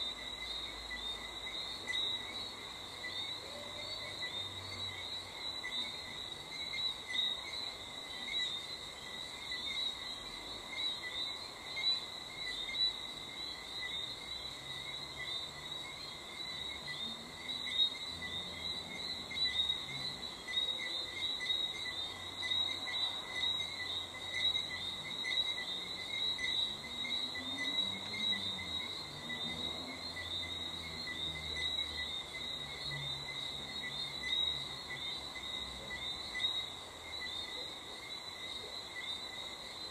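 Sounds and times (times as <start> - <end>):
crickets chirping: 0.0 - 39.9
frogs calling: 0.0 - 39.9.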